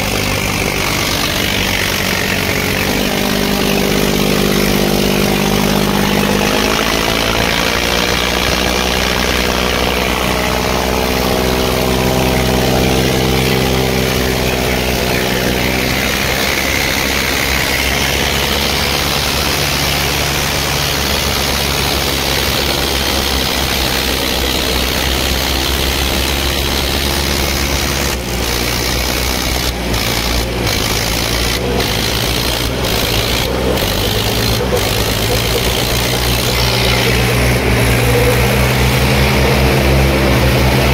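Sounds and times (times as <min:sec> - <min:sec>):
low drone: 0:00.0 - 0:40.9
tractor diesel engine running: 0:00.0 - 0:40.9.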